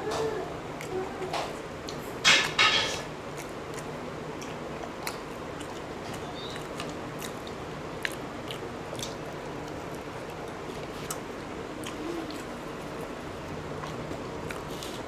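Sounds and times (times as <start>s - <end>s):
chewing and biting food: 0.7s - 15.0s.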